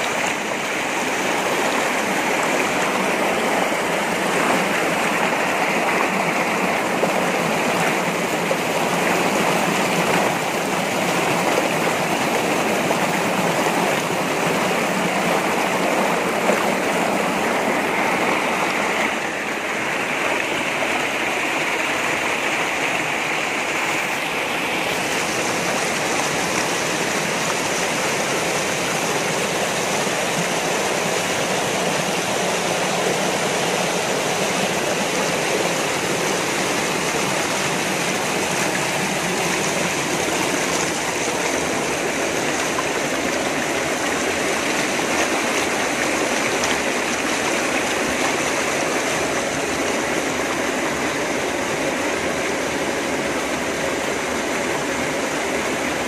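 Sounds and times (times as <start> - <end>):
river rushing over boulders: 0.0 - 56.0.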